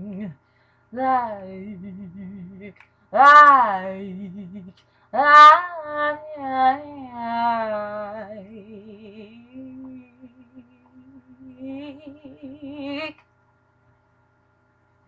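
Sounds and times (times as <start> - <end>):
woman singing unaccompanied: 0.0 - 13.2.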